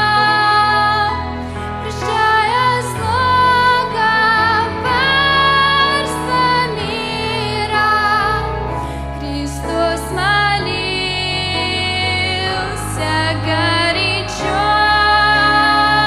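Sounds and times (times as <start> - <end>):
slow worship song: 0.0 - 16.0.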